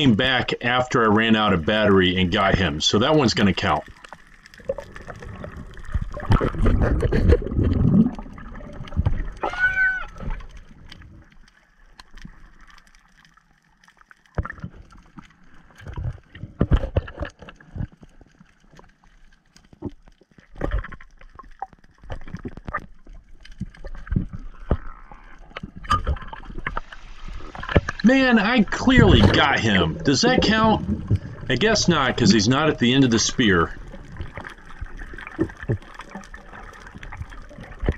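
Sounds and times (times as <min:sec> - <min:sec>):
water rushing and bubbling underwater: 0:00.0 - 0:37.9.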